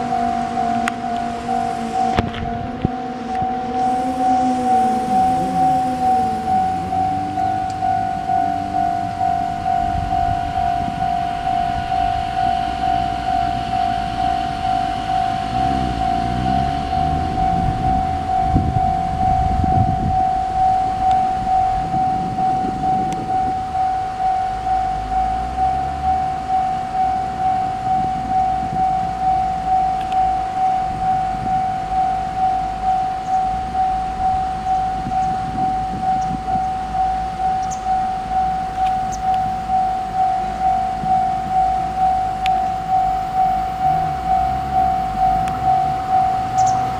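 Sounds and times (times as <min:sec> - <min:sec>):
level crossing alarm ringing: 0:00.0 - 0:46.9
low rumble: 0:00.0 - 0:46.9.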